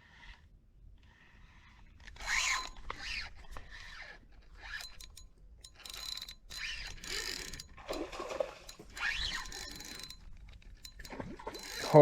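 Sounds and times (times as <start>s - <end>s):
fishing reel whirring and clicking: 0.0s - 12.0s.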